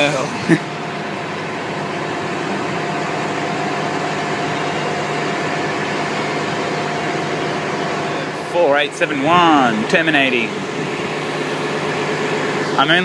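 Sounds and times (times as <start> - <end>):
monorail train electric running noise: 0.0 - 13.0.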